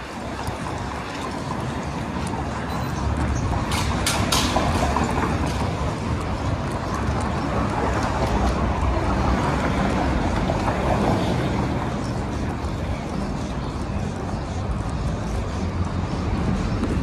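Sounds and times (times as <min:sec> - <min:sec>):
cars passing: 0:00.0 - 0:17.0
rumble of engines and tyres: 0:00.0 - 0:17.0.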